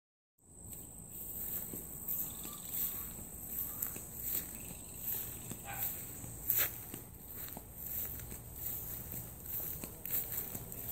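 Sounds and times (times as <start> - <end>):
insects chorus: 0.4 - 10.9
footsteps on grass and dirt: 0.5 - 10.9.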